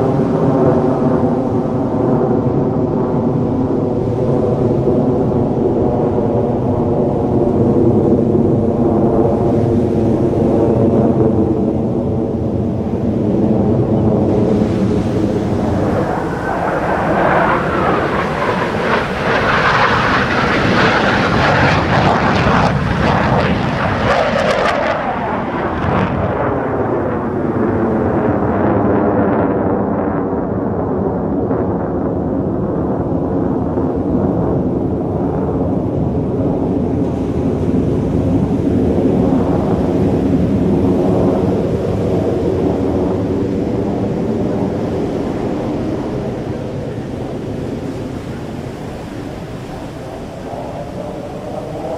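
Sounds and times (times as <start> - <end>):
fighter jet engine roar: 0.0 - 51.9.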